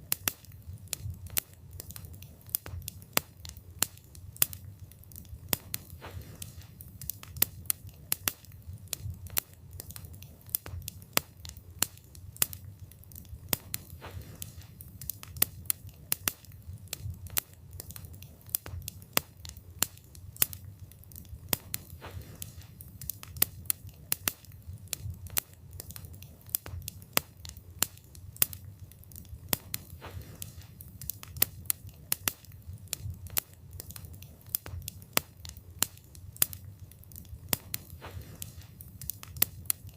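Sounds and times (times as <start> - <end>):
wood fire burning: 0.0 - 39.9.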